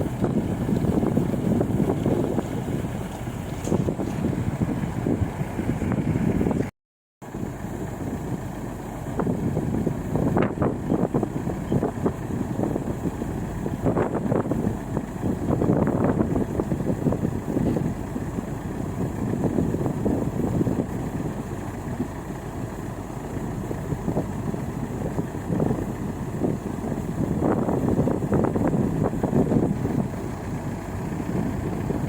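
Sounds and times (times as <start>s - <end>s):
combine harvester engine running: 0.0s - 32.0s.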